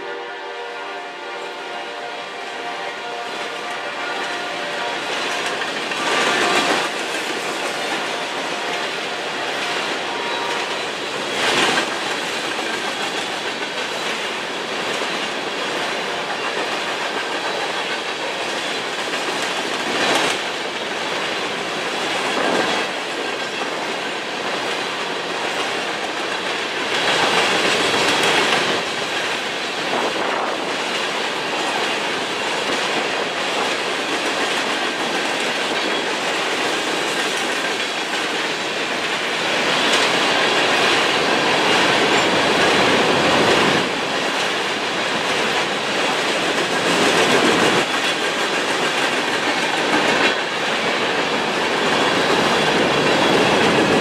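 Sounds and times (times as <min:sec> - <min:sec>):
freight train wheels clattering on rails: 0:00.0 - 0:54.0.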